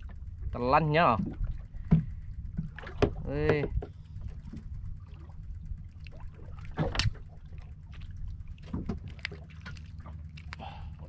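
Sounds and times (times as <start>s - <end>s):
boat low rumble: 0.0s - 11.0s
fishing line and tackle rustling: 1.6s - 11.0s.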